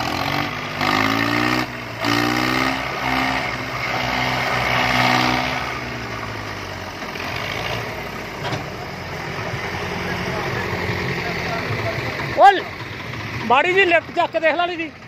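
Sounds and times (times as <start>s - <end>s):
diesel tractor engines under load: 0.0s - 15.0s.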